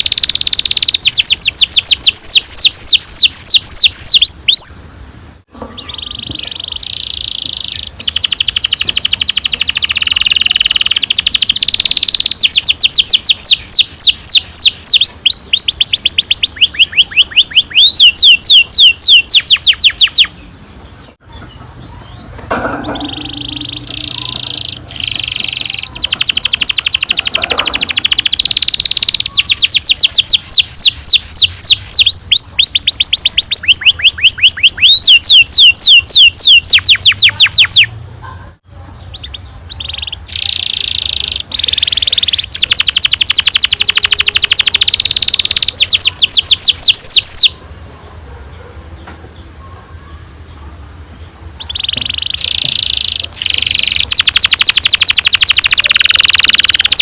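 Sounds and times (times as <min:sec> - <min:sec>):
canary singing trills: 0:00.0 - 0:04.9, 0:05.6 - 0:47.7, 0:48.3 - 0:57.0.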